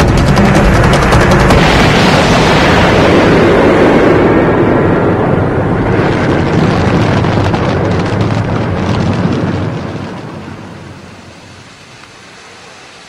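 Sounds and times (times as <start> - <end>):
crackling: 0.0 - 11.2
eruption rumble over loudspeakers: 0.0 - 12.9.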